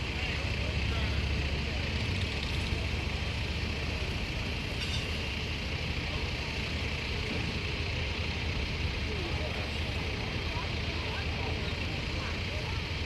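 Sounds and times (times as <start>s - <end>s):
lawn tractor engine rumble: 0.0s - 13.0s
outdoor background noise: 0.0s - 13.0s.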